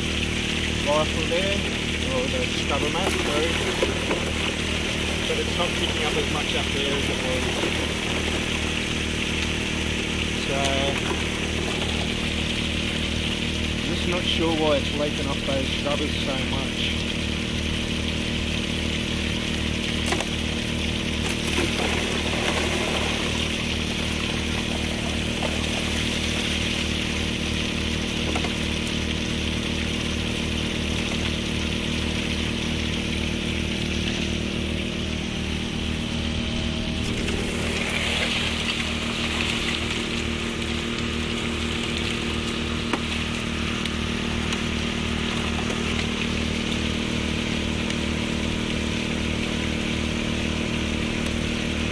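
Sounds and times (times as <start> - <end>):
water pump engine running: 0.0 - 51.9
water rushing through sluice: 0.0 - 51.9.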